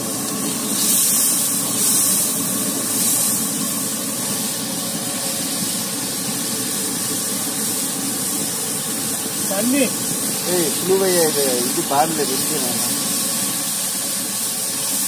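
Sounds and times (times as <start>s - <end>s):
fish sizzling and bubbling in pan: 0.0s - 15.0s.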